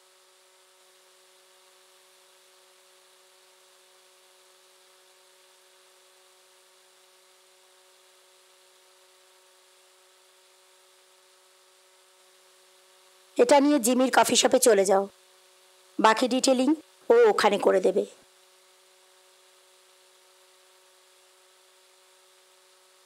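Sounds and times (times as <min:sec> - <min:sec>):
faint steady hiss: 0:00.0 - 0:23.0
faint steady hum: 0:00.0 - 0:23.0.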